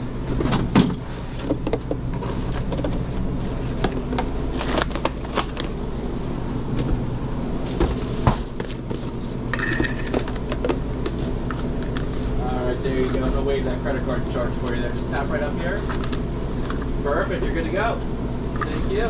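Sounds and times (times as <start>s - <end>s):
kitchen equipment humming: 0.0s - 19.0s.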